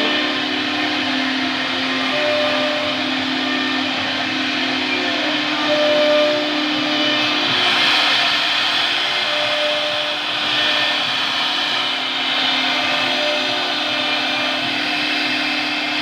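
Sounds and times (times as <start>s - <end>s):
cnc router spindle whine: 0.0s - 16.0s
machining hiss: 0.0s - 16.0s.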